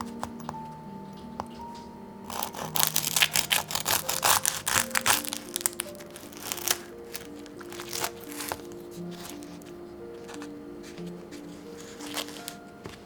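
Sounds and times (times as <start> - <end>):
soft background music: 0.0 - 13.0
crisp crackling and crunching: 1.5 - 13.0.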